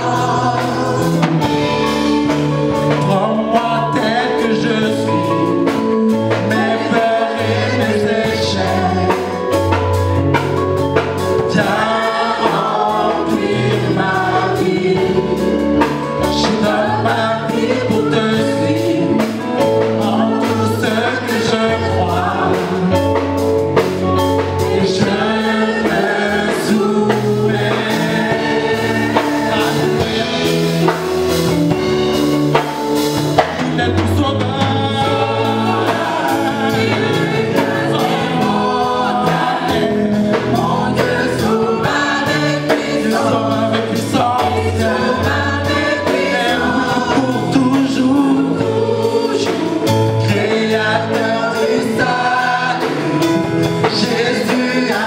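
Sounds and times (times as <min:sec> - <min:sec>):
instrumental accompaniment: 0:00.0 - 0:55.0
vocal group singing in harmony: 0:00.0 - 0:55.0.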